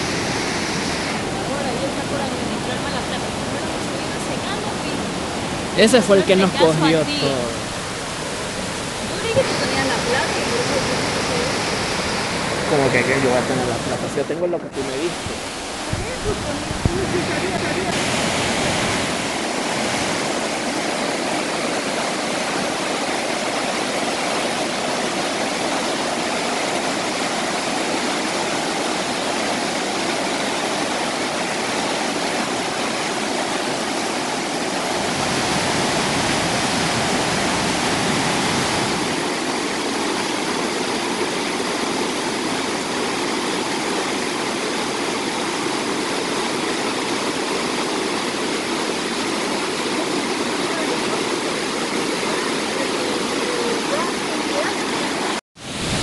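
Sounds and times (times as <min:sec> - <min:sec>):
river rapids roaring: 0:00.0 - 0:56.0.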